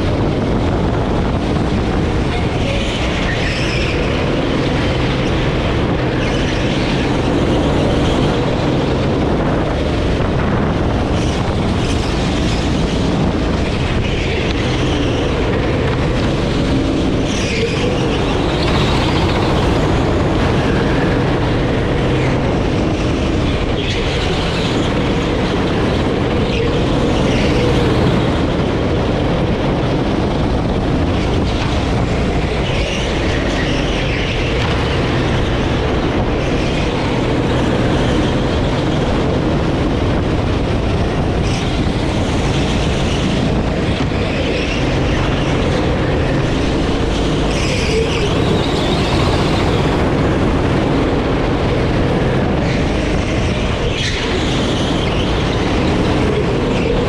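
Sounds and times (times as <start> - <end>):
kart engine at speed: 0.0 - 57.0
road and wind noise: 0.0 - 57.0.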